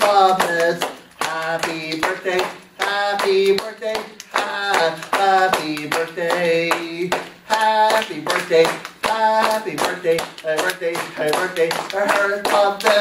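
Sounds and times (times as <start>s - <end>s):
group singing a birthday tune: 0.0s - 13.0s
hands clapping: 0.0s - 13.0s.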